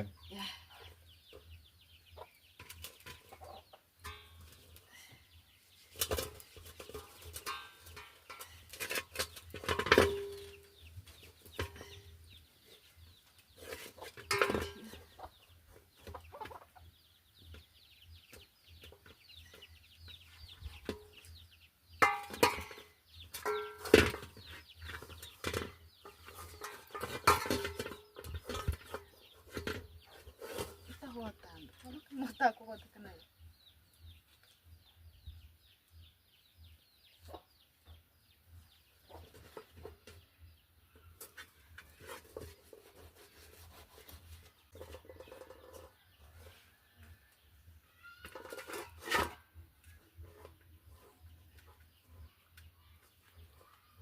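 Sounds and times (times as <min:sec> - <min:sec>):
chickens clucking: 0:00.0 - 0:05.4, 0:06.1 - 0:46.7.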